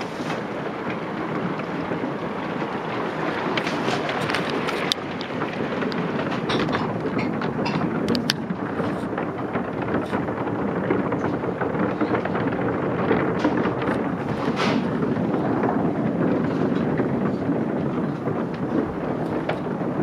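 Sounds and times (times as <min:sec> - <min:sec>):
hailstones drumming down: 0:00.0 - 0:20.0.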